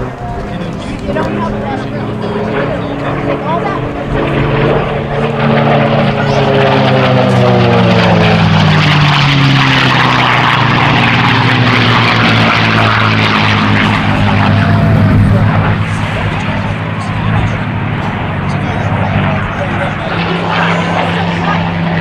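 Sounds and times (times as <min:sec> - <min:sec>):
propeller plane engine passing: 0:00.0 - 0:22.0.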